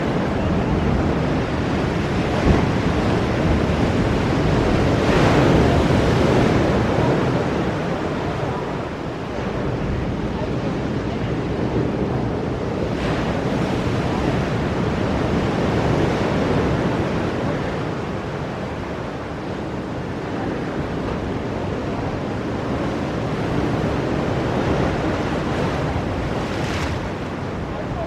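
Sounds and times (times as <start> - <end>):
ocean surf breaking on rocks: 0.0 - 28.0
wind buffeting microphone: 0.0 - 28.0.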